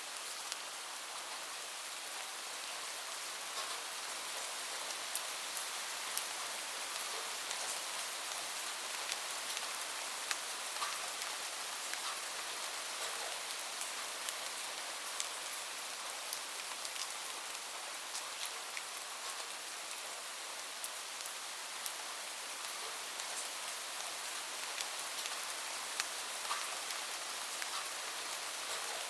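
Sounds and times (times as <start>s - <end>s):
rain drops on hard surface: 0.0s - 29.0s.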